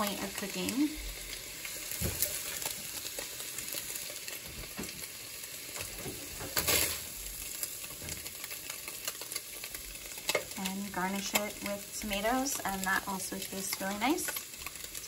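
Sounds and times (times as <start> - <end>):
skillet sizzling: 0.0 - 15.0.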